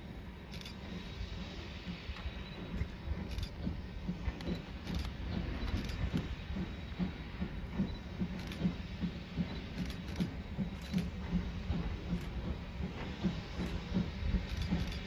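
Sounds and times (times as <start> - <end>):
steam locomotive chugging: 0.0 - 15.0.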